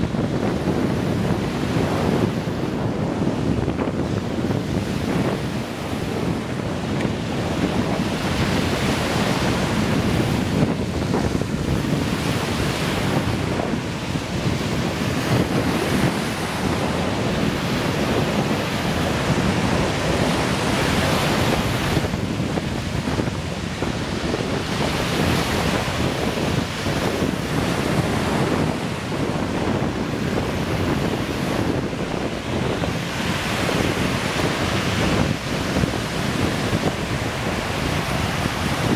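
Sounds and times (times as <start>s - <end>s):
small waves washing on shore: 0.0s - 38.9s
wind rumble on microphone: 0.0s - 38.9s.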